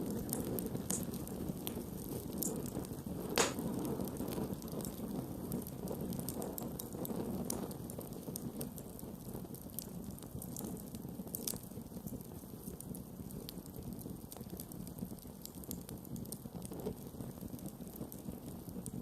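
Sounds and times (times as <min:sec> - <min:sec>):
campfire rumbling: 0:00.0 - 0:19.0
wood crackling and popping: 0:00.0 - 0:19.0.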